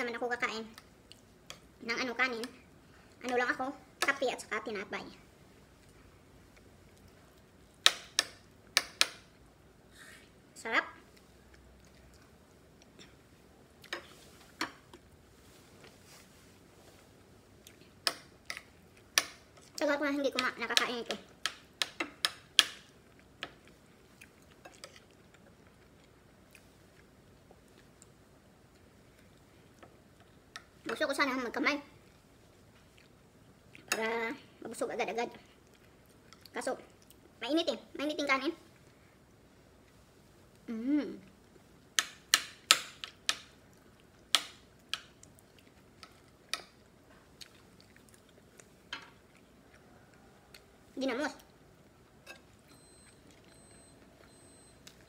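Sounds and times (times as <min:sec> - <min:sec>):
faint chewing: 0:00.6 - 0:01.8, 0:05.4 - 0:07.9, 0:11.0 - 0:31.0, 0:32.0 - 0:37.4, 0:38.6 - 0:42.0, 0:43.0 - 0:55.0.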